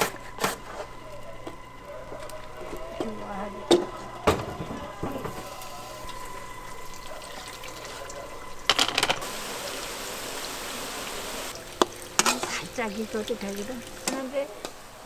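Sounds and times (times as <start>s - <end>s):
vegetables sizzling in oil: 2.4s - 15.0s.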